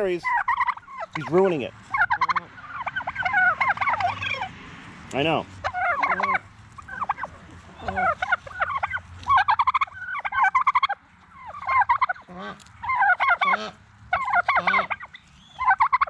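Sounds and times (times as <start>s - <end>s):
turkeys gobbling: 0.0s - 16.0s.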